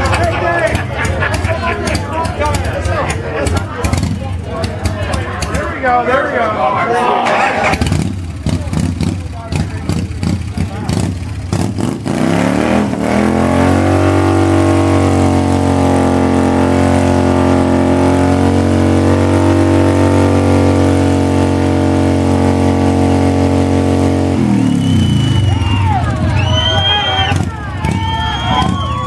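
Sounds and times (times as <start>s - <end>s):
motorcycle engine revving: 0.0s - 6.3s, 7.2s - 29.0s.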